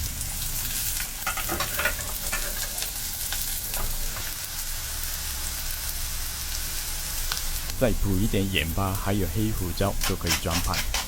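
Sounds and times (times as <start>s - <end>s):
potatoes sizzling in frying pan: 0.0s - 11.0s.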